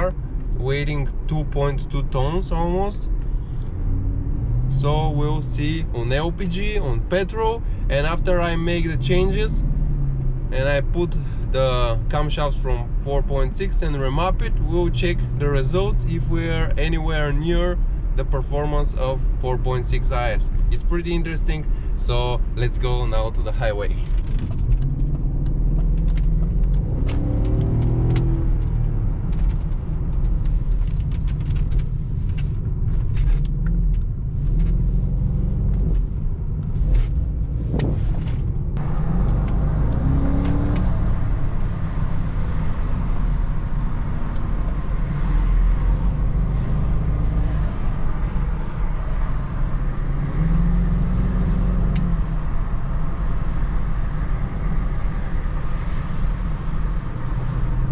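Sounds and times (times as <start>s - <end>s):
car engine rumble while driving: 0.0s - 57.9s.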